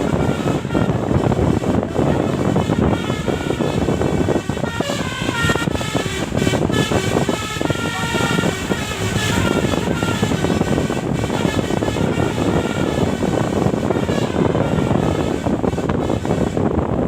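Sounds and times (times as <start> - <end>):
engine and road rumble: 0.0 - 17.0
multi-tone musical bus horn: 0.0 - 17.0.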